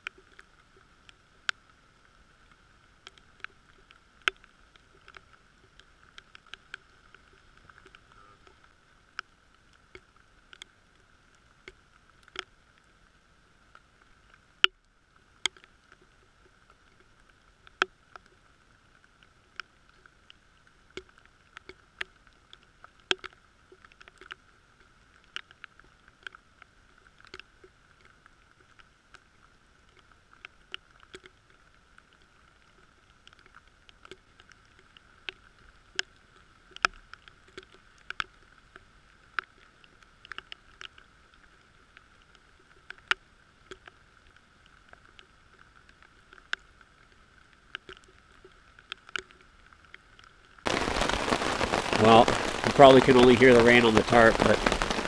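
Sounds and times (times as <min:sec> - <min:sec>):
raindrops ticking on camera housing: 0:00.0 - 0:55.0.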